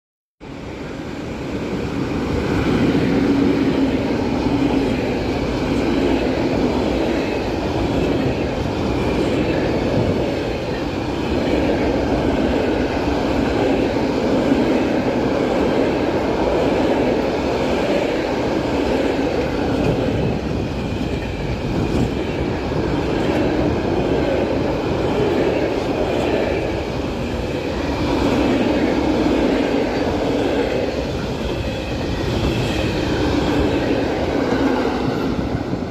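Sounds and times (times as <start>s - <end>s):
freight train rumbling on rails: 0.4s - 35.9s.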